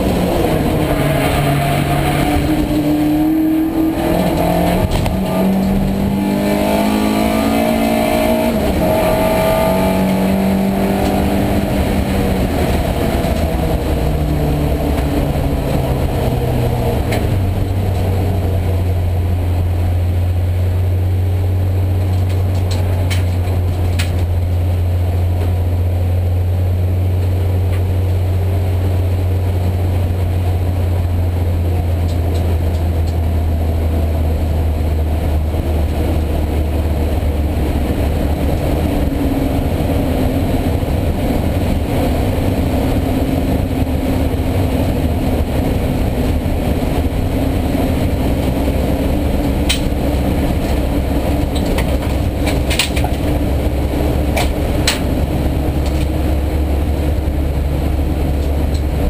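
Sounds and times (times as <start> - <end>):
race car engine droning: 0.0 - 59.0.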